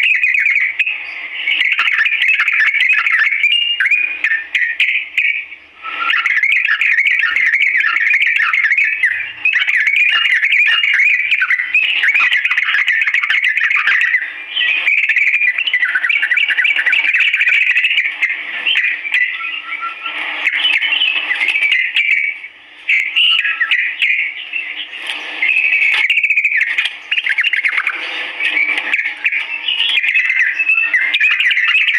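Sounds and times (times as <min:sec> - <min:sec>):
bird chattering song: 0:00.0 - 0:31.9.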